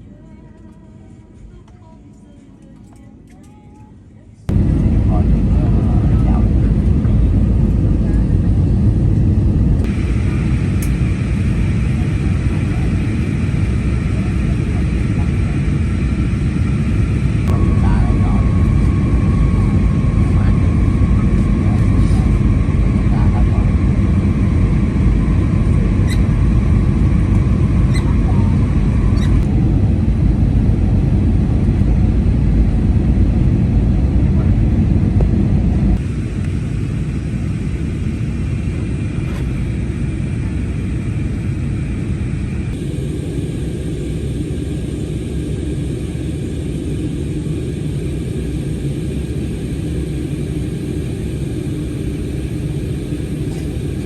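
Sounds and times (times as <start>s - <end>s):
low rumble: 4.5s - 54.0s.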